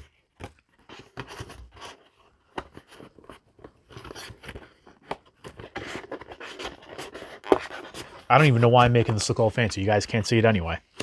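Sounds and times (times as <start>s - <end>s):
cardboard boxes tapping and scraping: 0.0s - 9.3s.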